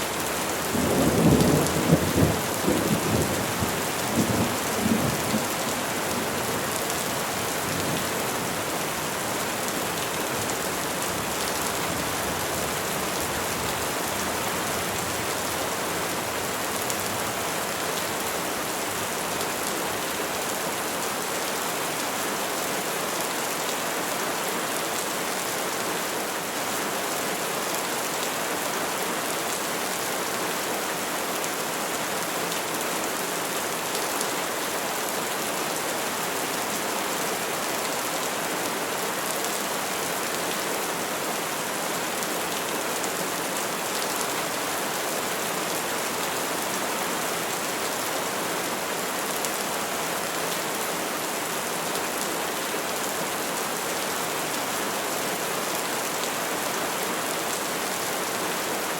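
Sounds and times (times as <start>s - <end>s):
rain falling on trees: 0.0s - 58.9s.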